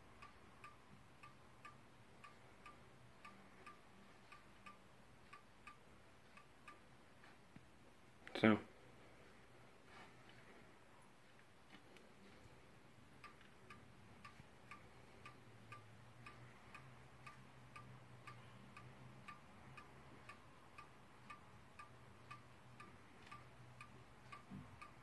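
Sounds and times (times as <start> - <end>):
pendulum clock ticking: 0.0 - 8.3, 9.0 - 25.0.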